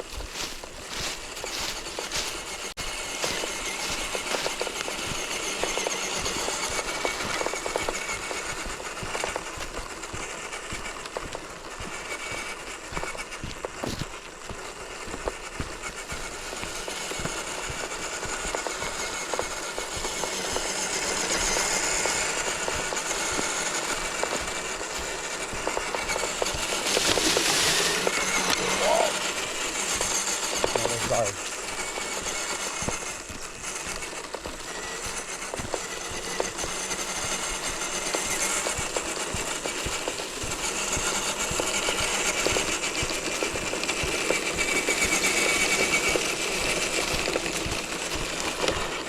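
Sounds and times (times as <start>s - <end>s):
electric motor and gear whine: 0.0s - 49.0s.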